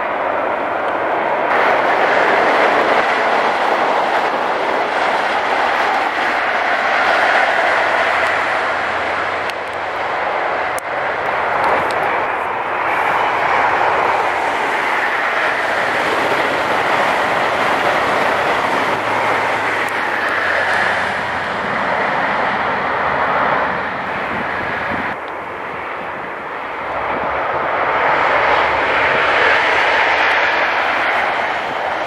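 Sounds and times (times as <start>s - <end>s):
train passing at speed: 0.0s - 32.0s.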